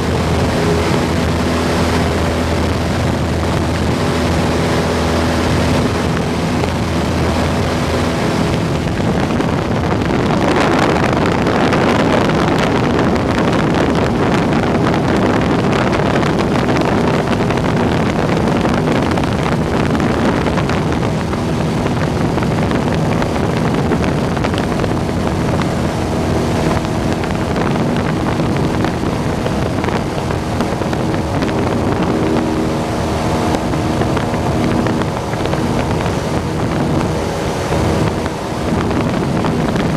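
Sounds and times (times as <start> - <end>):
propeller plane engine droning: 0.0 - 39.9
wind rushing: 0.0 - 39.9.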